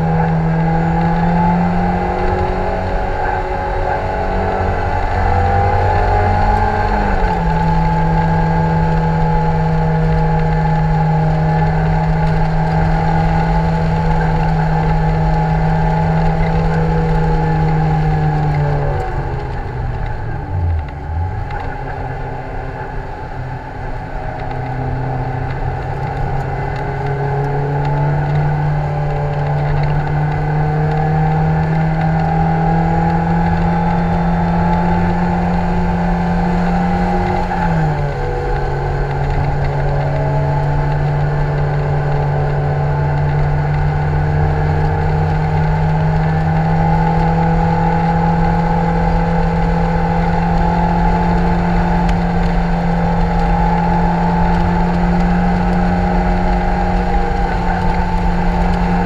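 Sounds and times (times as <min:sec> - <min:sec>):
car engine revving under load: 0:00.0 - 0:59.0.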